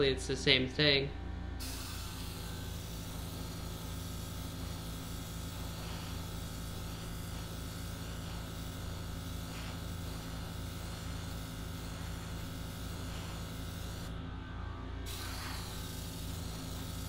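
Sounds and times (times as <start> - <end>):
hiss of airbrush spraying: 1.6 - 14.2, 15.1 - 17.0
airbrush compressor motor hum: 1.6 - 14.4, 15.0 - 17.0.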